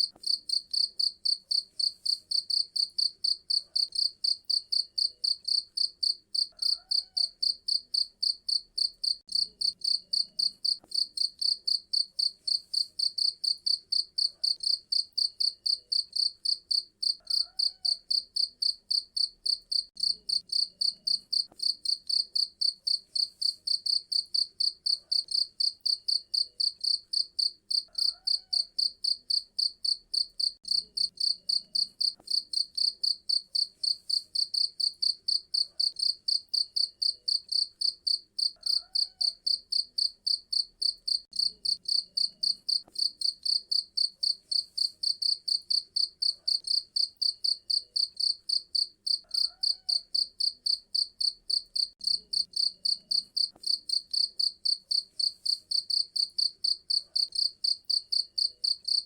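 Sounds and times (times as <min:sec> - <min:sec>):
cricket chirping: 0:00.1 - 0:59.0.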